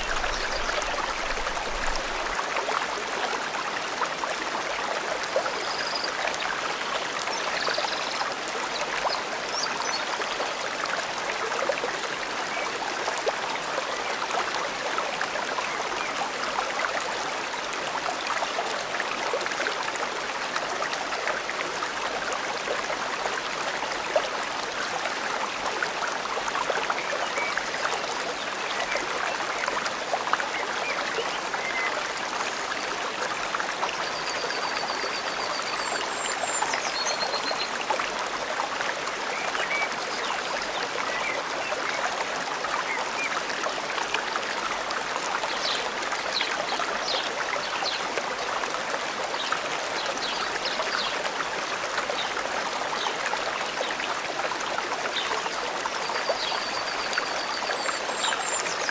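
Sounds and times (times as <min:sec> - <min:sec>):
stream babbling: 0:00.0 - 0:58.9.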